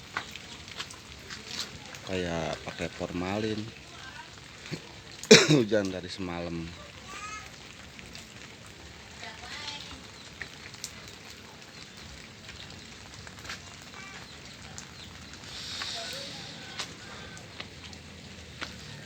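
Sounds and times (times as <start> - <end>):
light drizzle falling: 0.0 - 19.0
water drips: 0.0 - 19.0.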